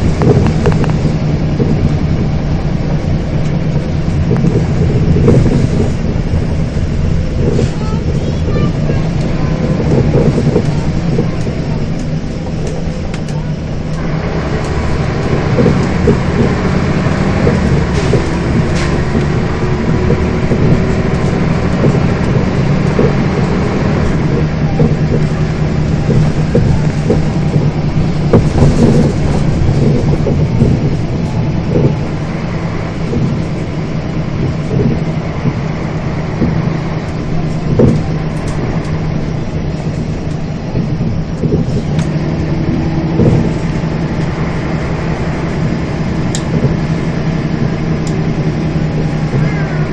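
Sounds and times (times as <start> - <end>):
body rattles and knocks: 0.0 - 49.9
bus engine drone: 0.0 - 49.9.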